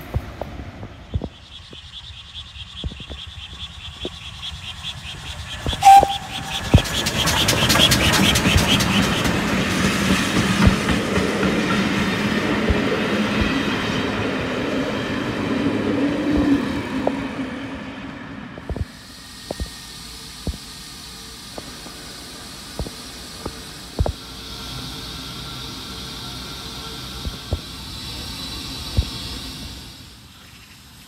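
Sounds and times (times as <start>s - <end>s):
train wheels clickety-clack: 0.0s - 2.0s, 2.7s - 17.8s, 18.4s - 30.1s.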